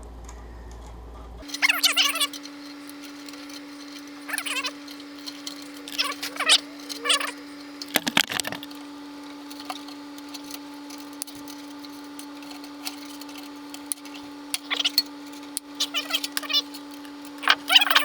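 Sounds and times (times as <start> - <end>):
steady low hum: 0.0 - 18.0
crackling and rustling handling: 1.4 - 18.0.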